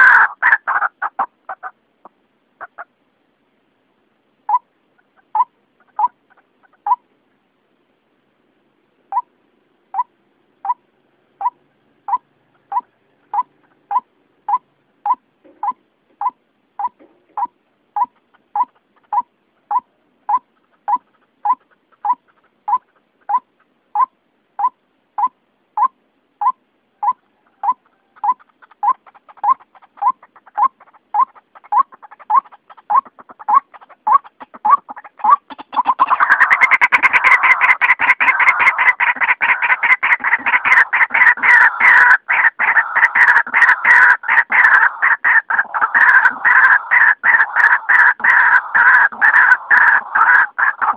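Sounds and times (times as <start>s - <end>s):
fainter bird calls: 4.4s - 7.1s, 9.1s - 50.9s.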